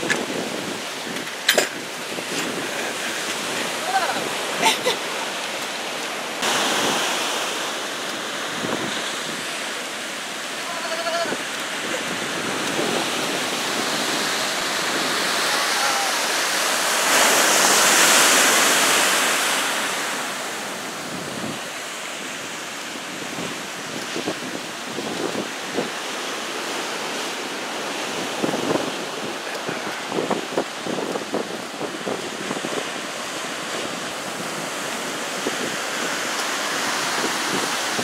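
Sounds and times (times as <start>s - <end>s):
storm surf breaking: 0.0s - 38.0s
wind gusting on microphone: 0.0s - 38.0s.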